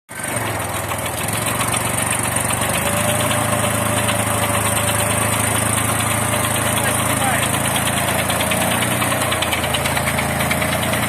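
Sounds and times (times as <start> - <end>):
tractor engine running: 0.1 - 11.0.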